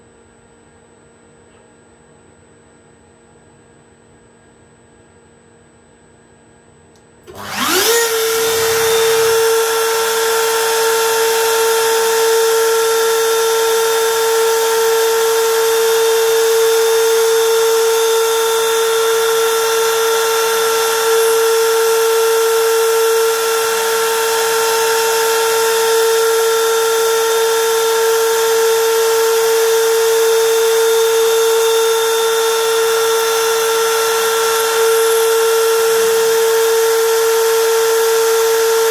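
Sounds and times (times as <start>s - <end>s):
milling spindle whining: 7.3s - 38.9s.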